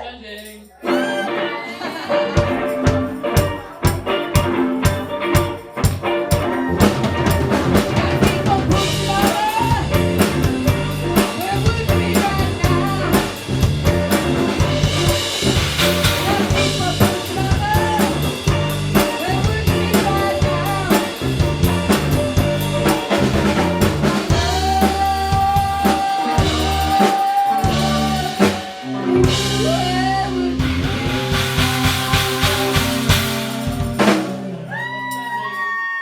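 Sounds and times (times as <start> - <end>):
bass: 0.0 - 1.4, 2.3 - 35.6
drum kit: 0.8 - 35.4.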